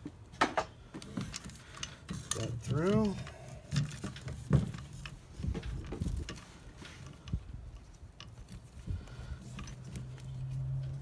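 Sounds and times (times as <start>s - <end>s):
cable rubbing against wood: 1.0s - 11.0s.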